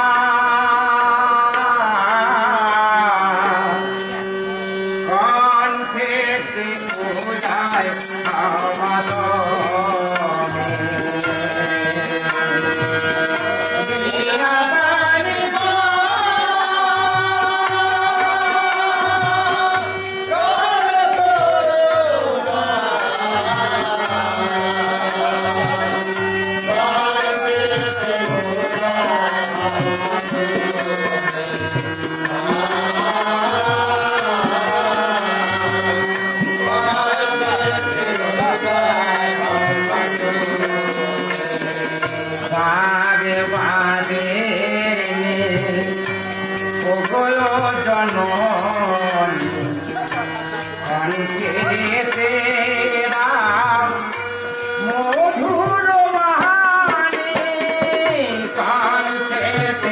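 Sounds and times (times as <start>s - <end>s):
harmonium chords: 0.0s - 59.9s
man singing: 0.0s - 59.9s
drum beating steady rhythm: 6.6s - 59.9s.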